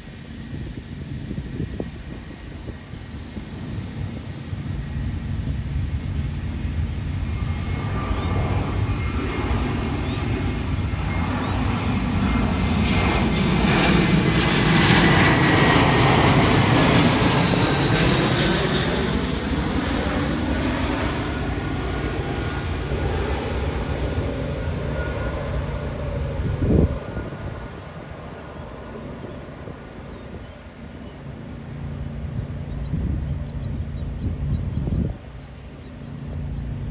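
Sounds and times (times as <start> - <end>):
jet airliner passing by: 0.0 - 36.9.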